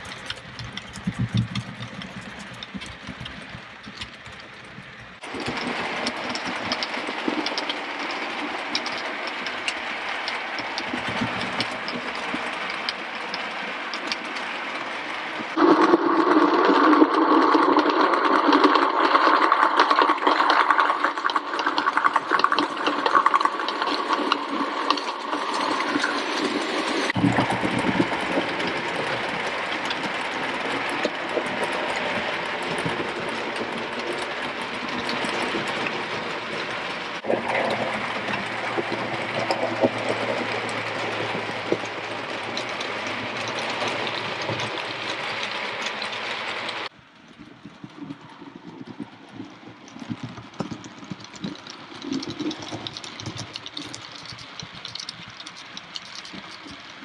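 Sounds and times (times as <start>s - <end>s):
wheels clicking on rails: 0.0s - 57.0s.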